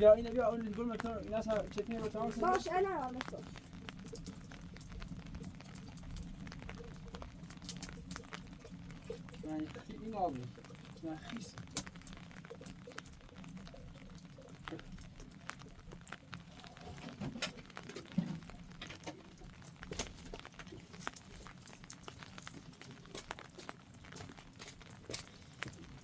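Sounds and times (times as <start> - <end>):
small clicks and taps: 0.3 - 26.0.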